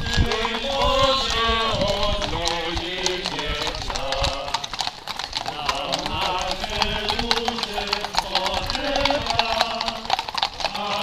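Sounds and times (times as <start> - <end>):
men singing a slow hymn: 0.0 - 4.7, 5.4 - 11.0
horse hooves clip-clopping on asphalt: 0.0 - 11.0.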